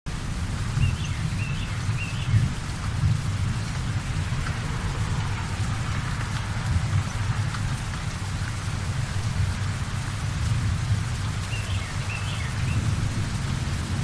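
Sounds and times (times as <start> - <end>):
heavy rain pouring: 0.1 - 14.0.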